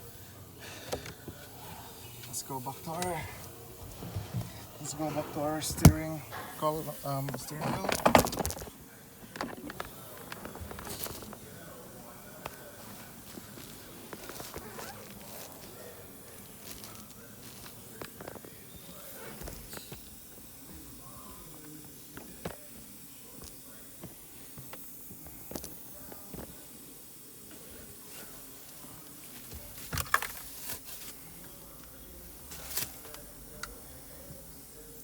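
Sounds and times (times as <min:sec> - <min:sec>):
faint steady hiss: 0:00.0 - 0:35.0.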